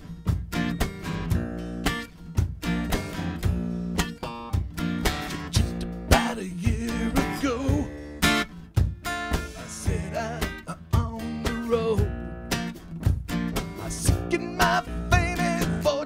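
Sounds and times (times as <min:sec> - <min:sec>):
acoustic guitar strumming: 0:00.0 - 0:16.0
stomped beat: 0:00.0 - 0:16.0
lead guitar bending notes: 0:00.2 - 0:16.0.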